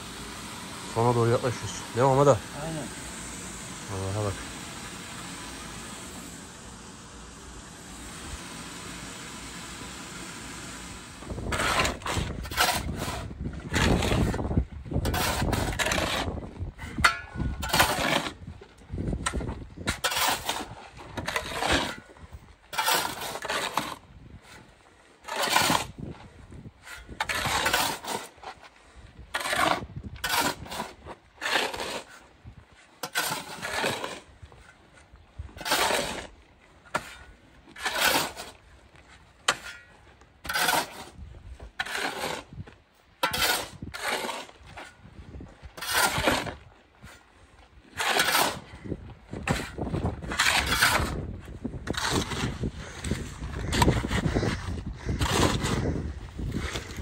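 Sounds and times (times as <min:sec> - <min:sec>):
hand tools scraping concrete: 0:00.2 - 0:06.4, 0:08.0 - 0:57.0.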